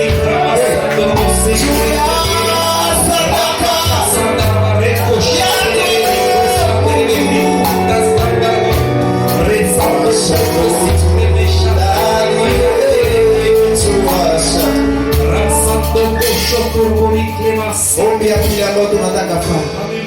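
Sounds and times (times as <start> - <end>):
church worship music with singing: 0.0 - 20.0.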